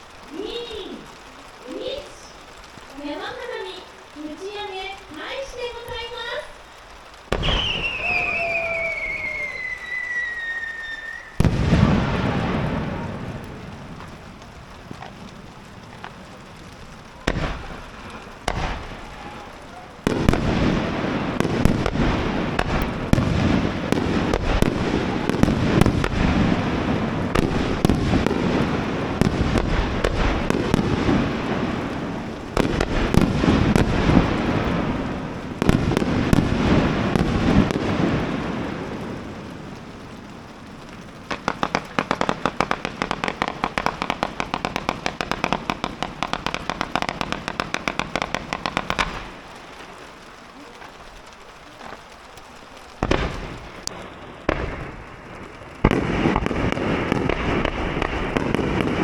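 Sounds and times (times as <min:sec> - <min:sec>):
fireworks booms and bursts: 0:00.0 - 0:59.0
fireworks crackling pops: 0:00.0 - 0:59.0.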